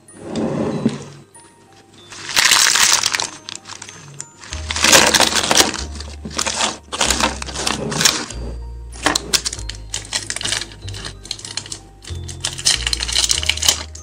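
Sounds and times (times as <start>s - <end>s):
background music: 0.0s - 14.0s
plastic wrappers crinkling: 2.0s - 8.4s, 9.0s - 14.0s.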